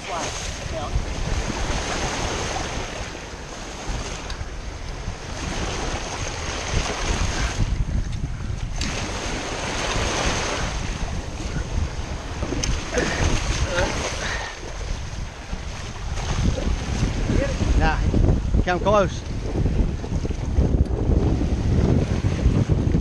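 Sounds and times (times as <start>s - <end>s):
surf washing and foaming: 0.0s - 23.0s
wind buffeting microphone: 0.0s - 23.0s.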